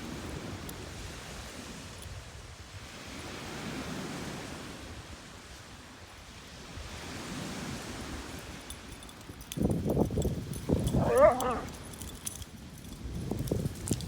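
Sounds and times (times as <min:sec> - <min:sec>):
waves washing onto a beach: 0:00.0 - 0:14.0.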